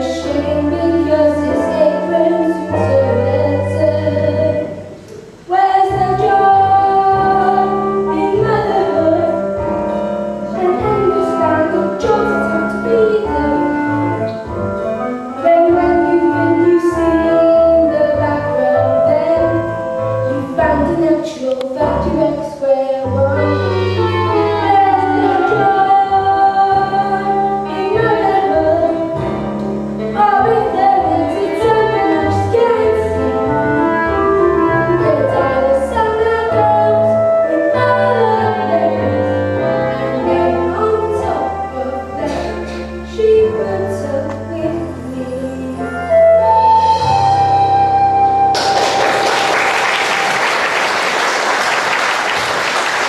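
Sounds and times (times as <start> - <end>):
held bass notes: 0.0 - 21.2, 21.8 - 49.4.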